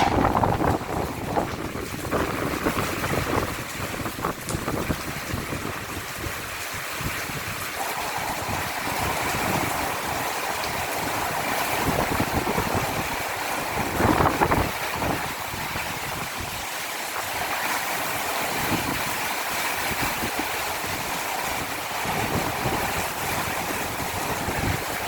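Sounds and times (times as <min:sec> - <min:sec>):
rain rushing: 0:00.0 - 0:25.0
wind buffeting microphone: 0:00.0 - 0:25.0.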